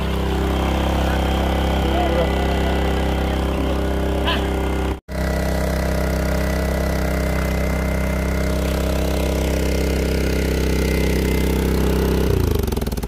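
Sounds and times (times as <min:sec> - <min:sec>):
petrol generator engine running: 0:00.0 - 0:13.0.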